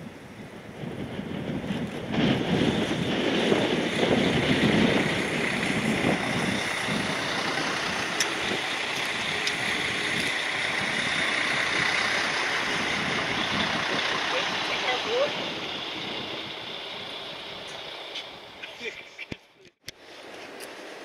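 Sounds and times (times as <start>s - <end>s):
diesel train engine running: 0.0s - 19.9s
train wheels rolling on track: 0.8s - 18.7s.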